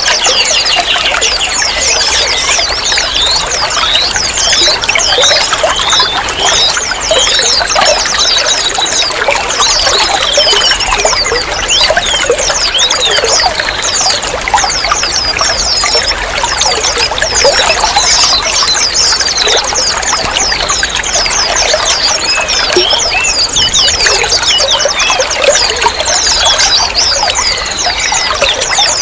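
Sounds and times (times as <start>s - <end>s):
water trickling and splashing: 0.0s - 29.0s.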